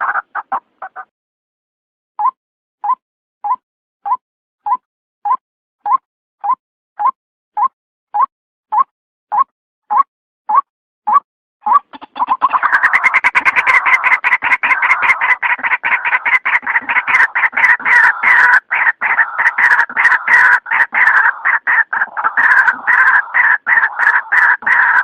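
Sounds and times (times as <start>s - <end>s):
bird calling harsh repeated notes: 2.2s - 25.0s.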